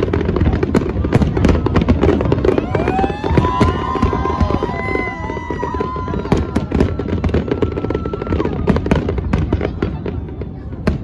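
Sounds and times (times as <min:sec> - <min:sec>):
fireworks whistles: 0:00.0 - 0:09.4
fireworks bangs and crackles: 0:00.0 - 0:11.0.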